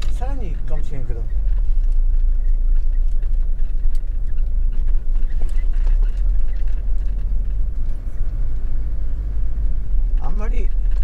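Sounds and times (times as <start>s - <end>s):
van engine and tyres rumbling: 0.0s - 11.0s.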